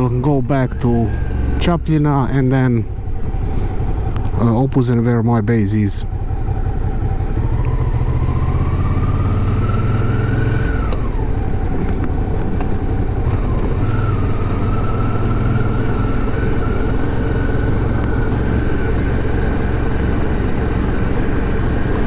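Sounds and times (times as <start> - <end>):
motorcycle engine revving: 0.8 - 22.0.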